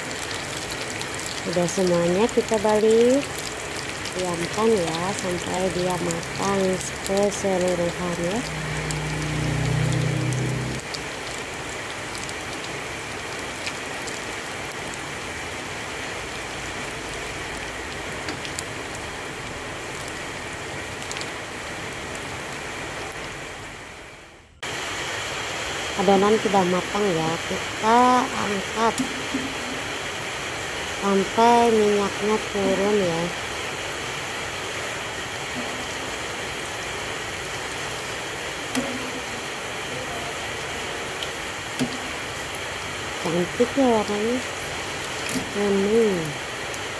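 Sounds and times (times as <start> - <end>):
food sizzling in hot oil: 0.0 - 23.3, 24.7 - 46.9
oil popping and crackling: 0.0 - 23.4, 27.7 - 46.9.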